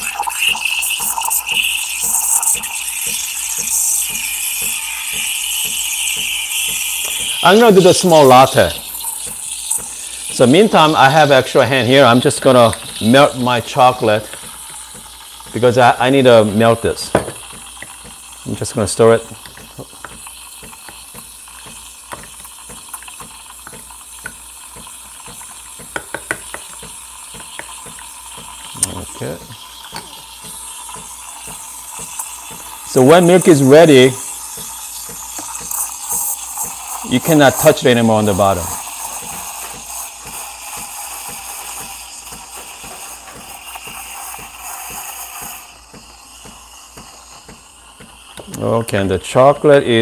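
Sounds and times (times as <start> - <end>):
espresso machine pump pulsing: 0.0 - 50.0
steam wand hissing: 0.0 - 50.0.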